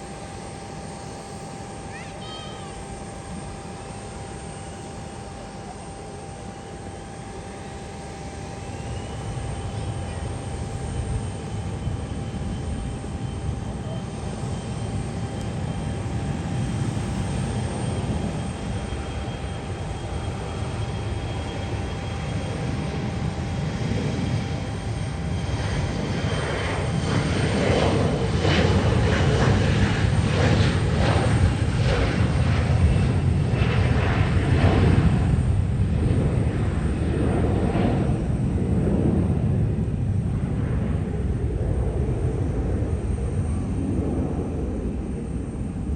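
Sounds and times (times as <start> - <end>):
airliner engines running: 0.0 - 45.9
high-pitched engine whine: 0.0 - 45.9.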